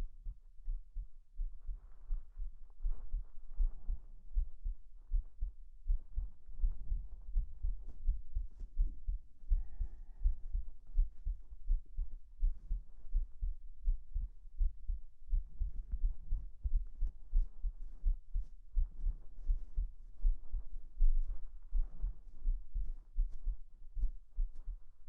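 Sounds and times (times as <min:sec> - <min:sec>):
human heartbeat thumps: 0:00.0 - 0:25.0.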